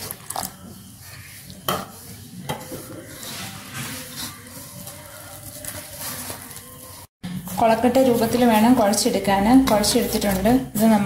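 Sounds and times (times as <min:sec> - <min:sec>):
dough scraping in metal bowl: 0:00.0 - 0:11.0.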